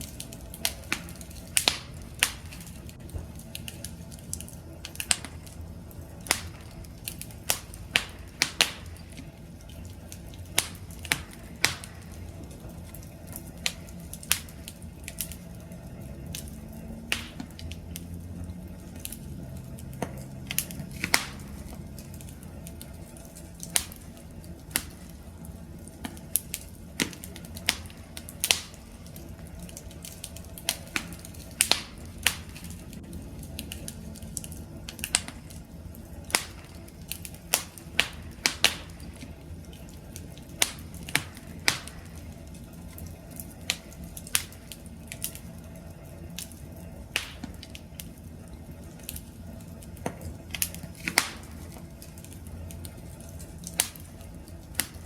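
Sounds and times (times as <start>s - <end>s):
campfire crackling: 0.0s - 55.0s
low rumble of flames: 0.0s - 55.0s.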